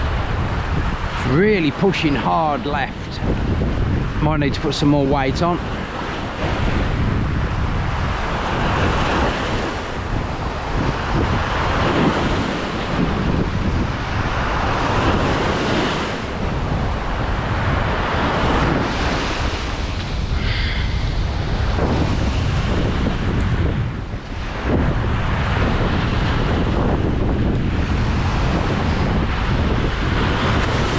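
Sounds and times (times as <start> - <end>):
waves washing on rocky shore: 0.0 - 30.9
wind buffeting microphone: 0.0 - 30.9.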